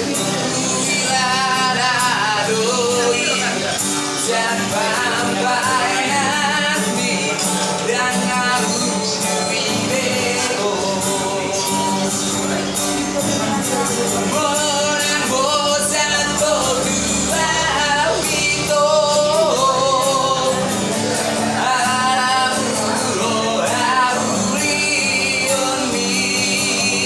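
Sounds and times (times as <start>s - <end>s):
instrumental accompaniment: 0.0s - 27.0s
person singing with vibrato: 0.0s - 27.0s.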